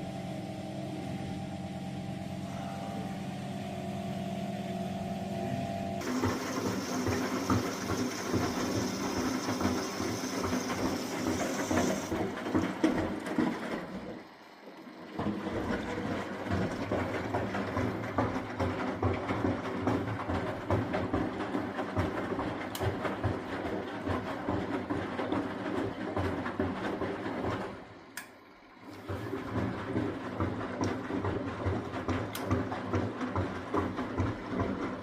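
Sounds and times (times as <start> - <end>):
washing machine mechanical hum: 0.0 - 35.0
washing machine drum knocking and sloshing: 6.0 - 28.0, 28.9 - 35.0.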